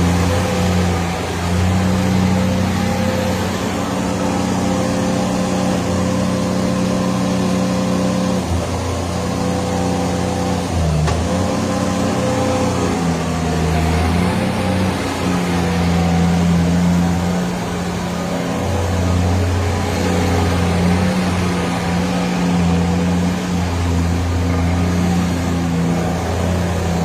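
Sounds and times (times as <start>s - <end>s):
loader engine running: 0.0s - 27.0s.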